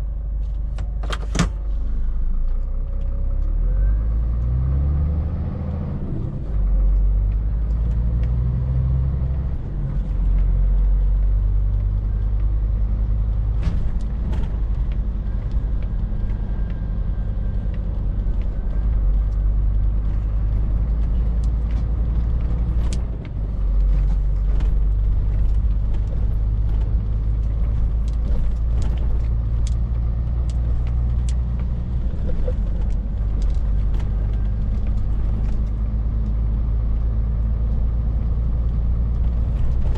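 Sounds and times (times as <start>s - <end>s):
lorry diesel engine droning: 0.0s - 39.9s.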